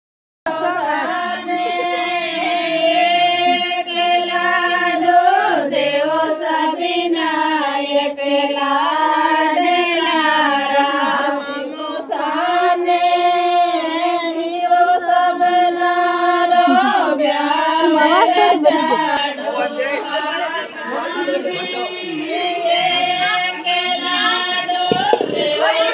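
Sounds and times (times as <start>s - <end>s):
women singing folk song: 0.5s - 25.9s.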